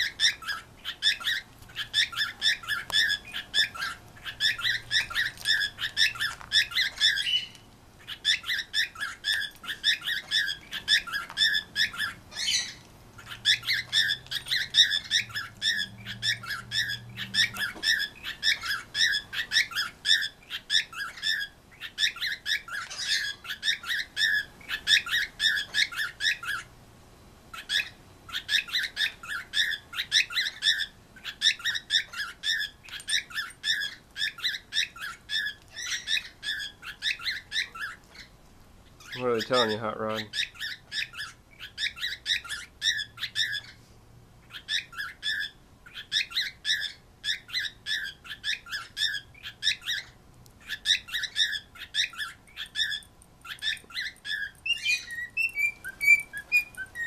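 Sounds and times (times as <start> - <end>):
cockatiels chirping: 0.0 - 26.7, 27.5 - 57.0.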